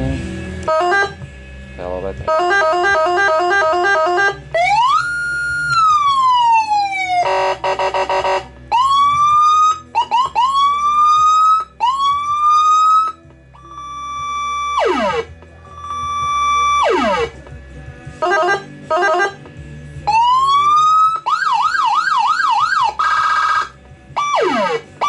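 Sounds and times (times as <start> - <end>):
electronic siren tones: 0.7 - 1.2, 2.3 - 17.5, 18.2 - 19.5, 20.1 - 25.0.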